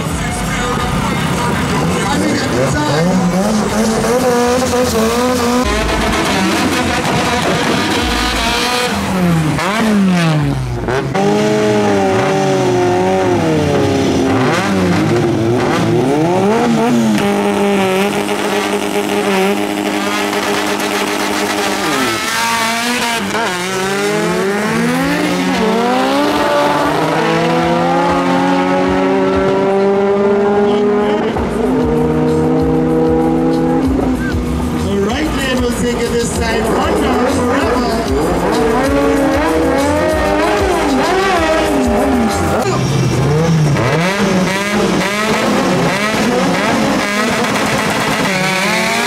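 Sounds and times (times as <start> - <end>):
drag car engines revving: 0.0 - 49.0
engines accelerating through gears: 0.0 - 49.0.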